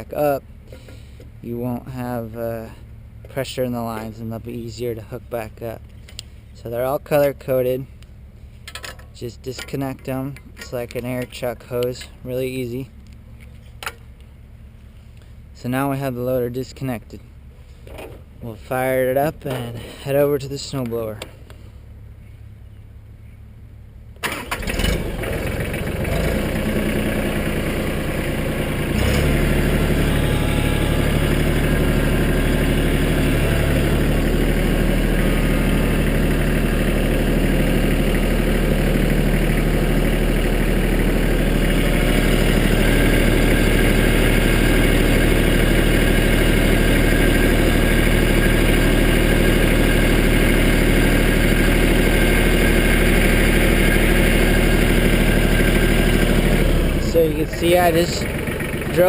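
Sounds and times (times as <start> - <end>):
tractor diesel engine starting and running: 0.0 - 59.0.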